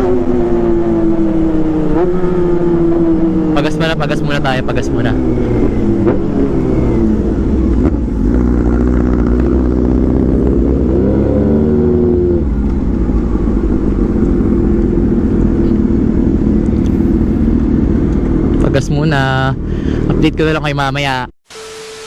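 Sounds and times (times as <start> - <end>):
motorcycle engines running hard: 0.0 - 20.4
low wind rumble: 0.0 - 21.2.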